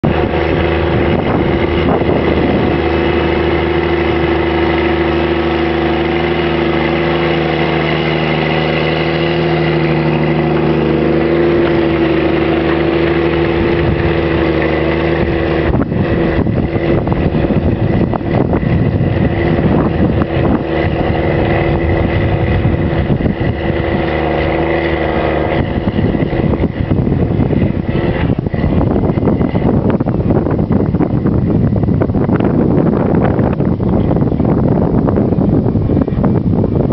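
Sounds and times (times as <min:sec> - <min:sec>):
rough irregular noise: 0:00.0 - 0:36.9
tractor diesel engine droning: 0:00.0 - 0:36.9.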